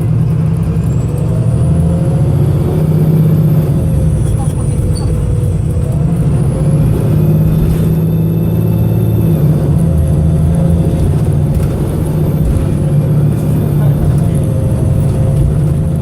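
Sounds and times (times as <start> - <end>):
bus diesel engine under load: 0.0 - 16.0.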